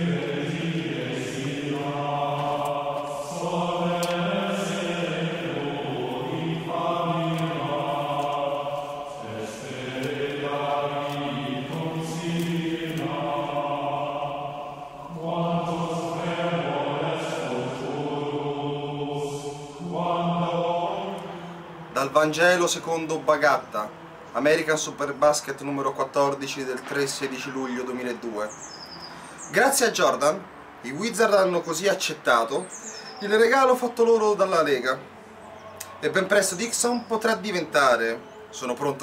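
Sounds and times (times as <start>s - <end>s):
low voices chanting: 0.0s - 39.0s.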